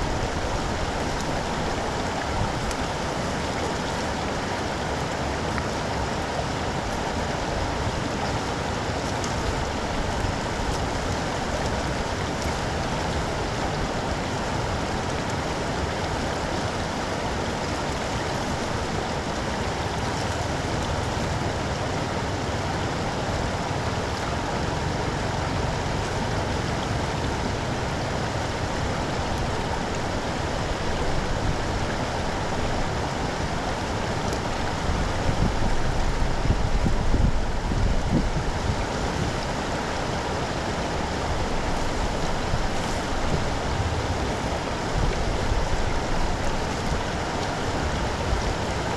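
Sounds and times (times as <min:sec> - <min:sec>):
floodwater pouring into storm drain: 0:00.0 - 0:48.9.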